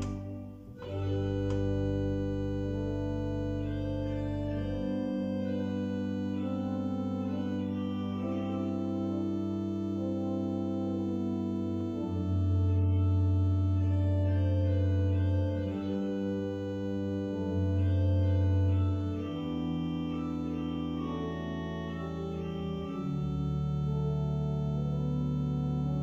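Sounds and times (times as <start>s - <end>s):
church organ chords: 0.0s - 26.0s.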